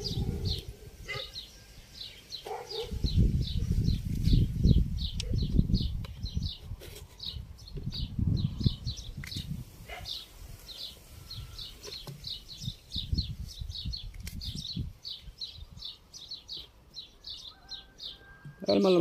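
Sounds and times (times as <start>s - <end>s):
small bird chirping: 0.0s - 18.8s.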